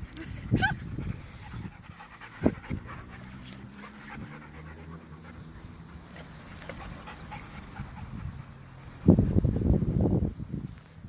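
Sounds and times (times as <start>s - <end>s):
dogs panting: 0.0s - 9.5s.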